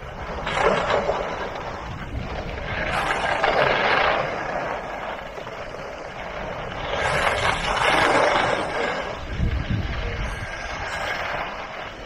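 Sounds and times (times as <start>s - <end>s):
skis hissing over snow: 0.0s - 12.0s
wind on microphone: 0.0s - 12.0s.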